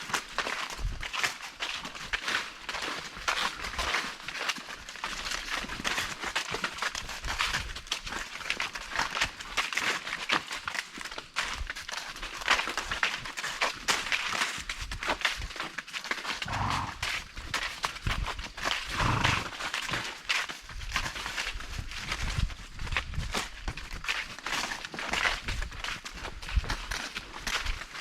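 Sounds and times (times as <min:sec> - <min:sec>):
horse hooves crunching on trail: 0:00.0 - 0:28.0.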